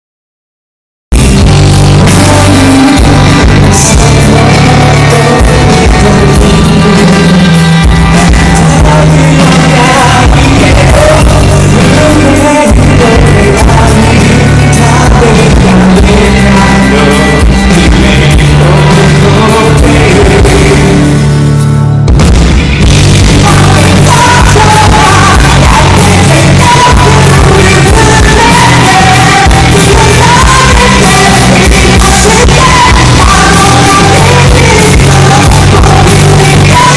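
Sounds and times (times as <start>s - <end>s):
live rock band playing: 1.1s - 36.9s
person singing: 1.2s - 21.4s, 23.2s - 36.9s.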